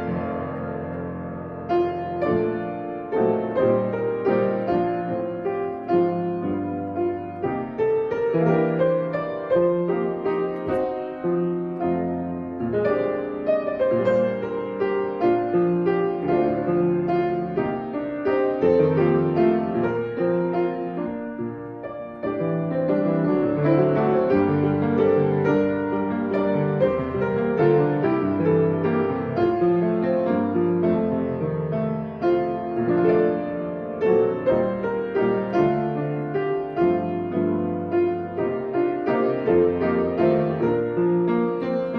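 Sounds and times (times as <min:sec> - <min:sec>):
piano music: 0:00.0 - 0:41.9.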